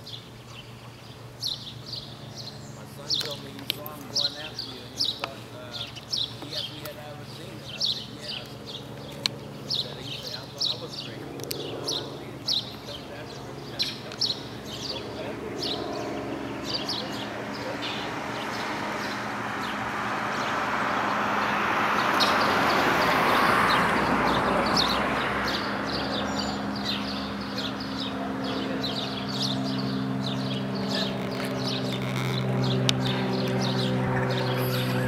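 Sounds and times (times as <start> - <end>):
low engine-like hum: 0.0 - 35.0
small birds chirping: 0.0 - 35.0.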